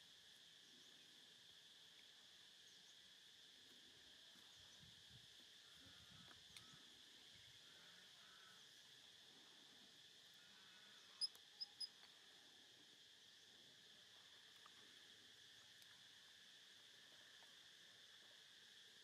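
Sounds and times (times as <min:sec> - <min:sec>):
faint insect chorus: 0:00.0 - 0:19.0.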